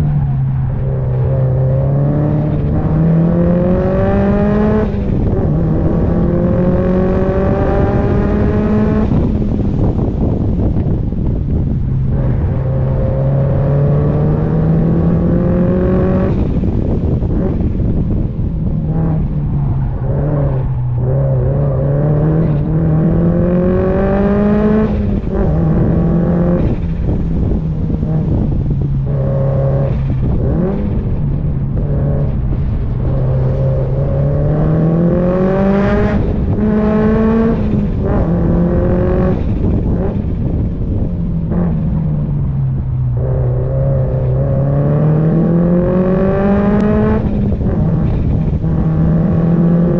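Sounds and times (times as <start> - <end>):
car engine accelerating: 0.0 - 49.9
road rumble: 0.0 - 49.9
wind noise: 0.0 - 49.9.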